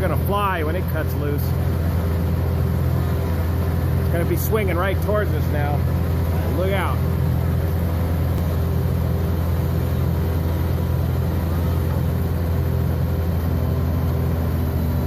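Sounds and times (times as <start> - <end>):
large engine running steadily: 0.0 - 15.0.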